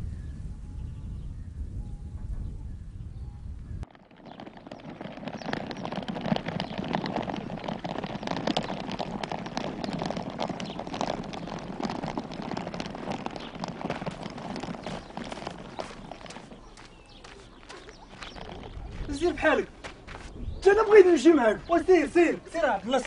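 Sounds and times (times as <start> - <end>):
suitcase wheels on gravel: 3.8 - 23.0.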